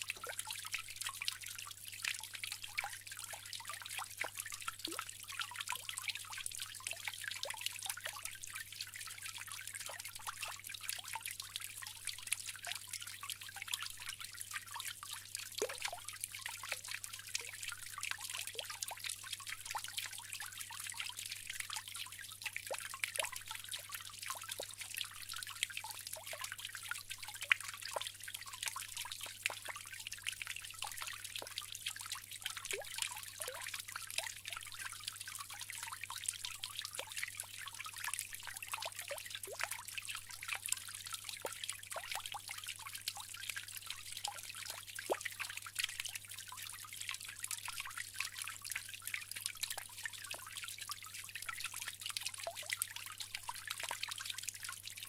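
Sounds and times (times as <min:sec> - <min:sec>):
water drips and splashes: 0:00.0 - 0:55.0
water trickling into basin: 0:00.0 - 0:55.0.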